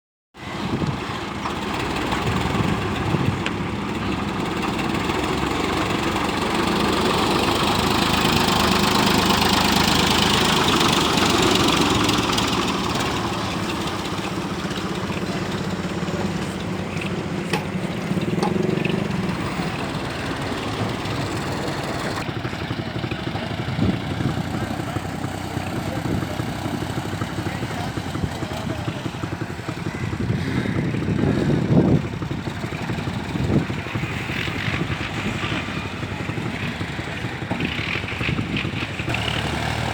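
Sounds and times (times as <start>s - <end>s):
tractor engine running under load: 0.4s - 39.9s.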